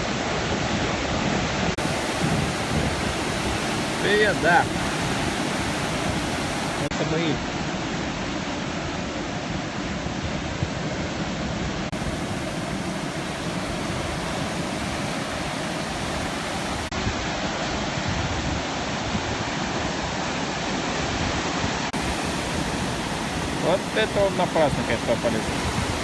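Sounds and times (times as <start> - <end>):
sea surf breaking waves: 0.0 - 8.8, 11.4 - 26.0.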